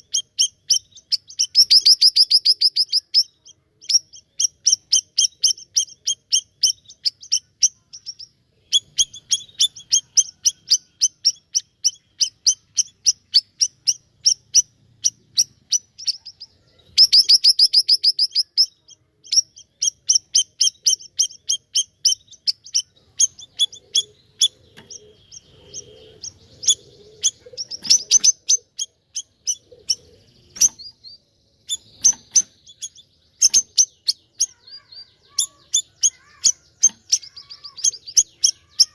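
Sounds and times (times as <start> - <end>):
rapid bird trill: 0.0 - 38.9
songbird chirping: 0.0 - 38.9.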